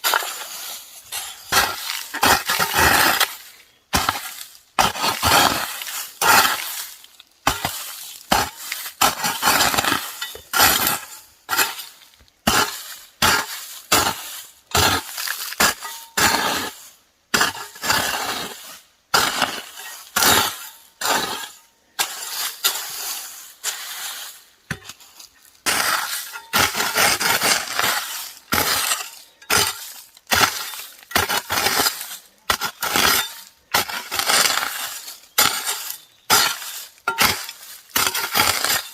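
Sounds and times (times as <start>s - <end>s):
hoe chopping and scraping soil: 0.0s - 38.9s.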